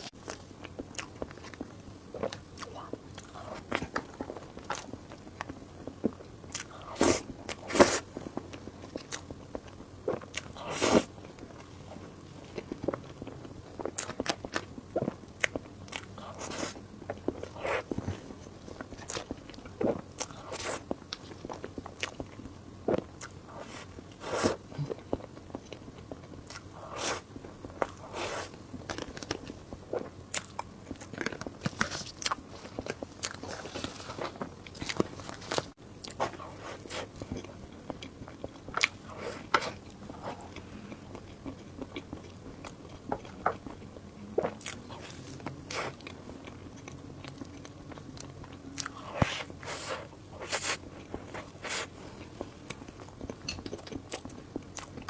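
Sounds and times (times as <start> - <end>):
person chewing and crunching: 0.0 - 55.0.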